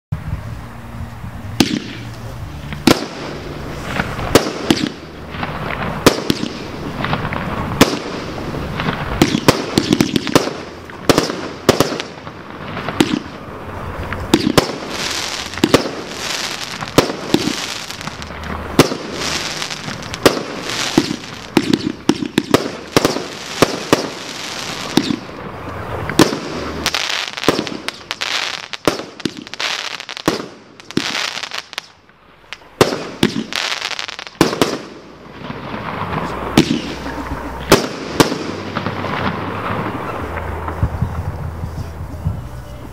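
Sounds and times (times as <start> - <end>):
firework crackling: 0.2 - 42.9
firework bangs: 1.5 - 42.4.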